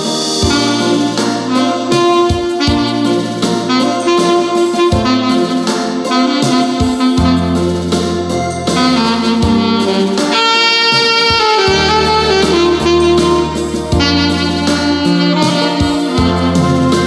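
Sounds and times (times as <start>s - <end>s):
alto saxophone melody: 0.0s - 17.0s
backing track with bass line: 0.0s - 17.0s.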